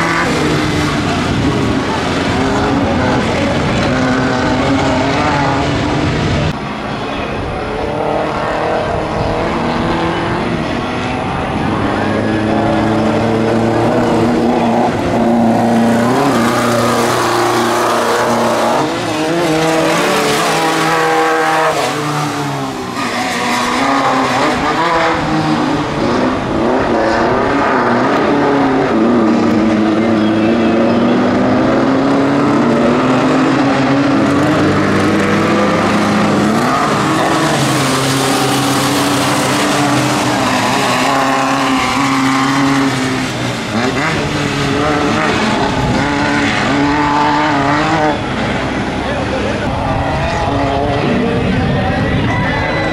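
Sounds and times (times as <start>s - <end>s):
off-road buggy engines revving: 0.0s - 52.9s.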